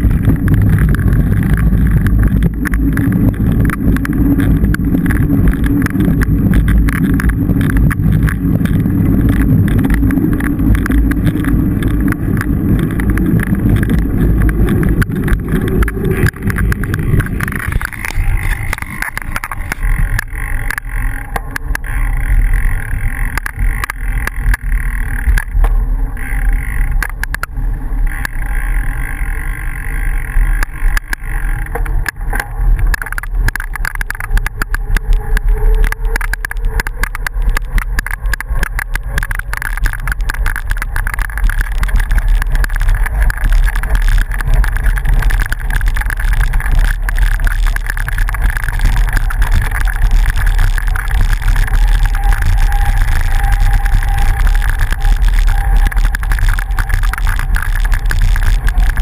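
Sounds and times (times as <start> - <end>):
bicycle rattling: 0.0 - 59.0
tyres rolling on dirt road: 0.0 - 59.0.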